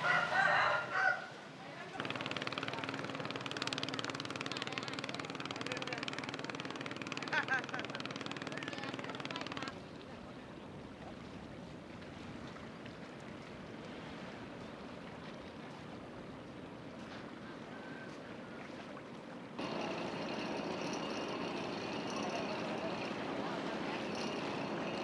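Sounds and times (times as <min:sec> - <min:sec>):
river ambience: 0:00.0 - 0:25.0
boat engine running: 0:01.8 - 0:25.0.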